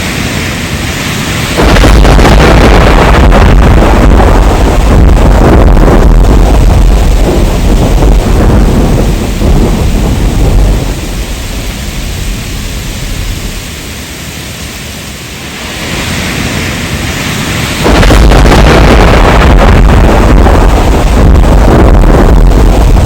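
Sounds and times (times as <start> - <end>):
heavy rain: 0.0 - 23.0
thunder rumble: 0.0 - 23.0.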